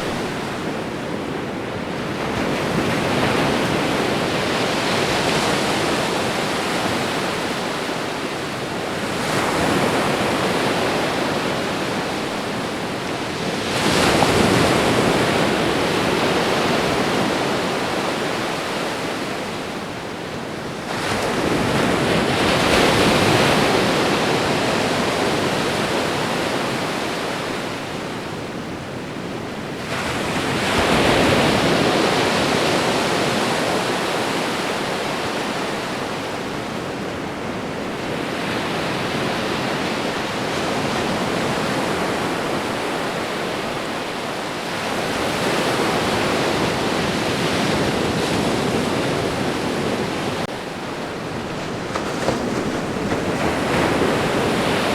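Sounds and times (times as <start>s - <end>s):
ocean waves washing ashore: 0.0s - 54.9s.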